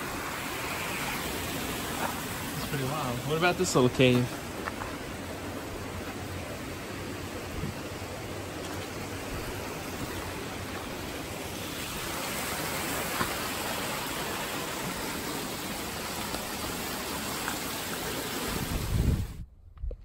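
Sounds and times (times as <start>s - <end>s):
stream cascading over rocks: 0.0s - 19.4s.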